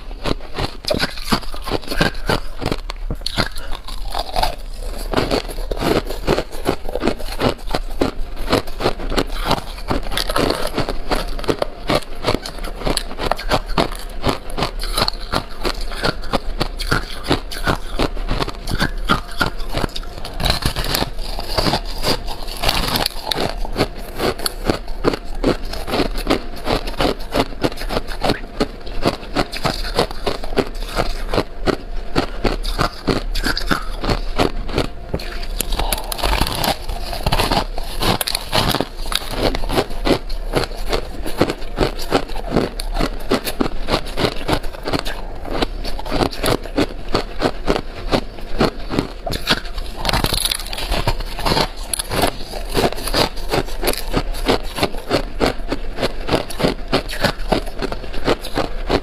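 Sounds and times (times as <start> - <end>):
person chewing ice: 0.0 - 59.0.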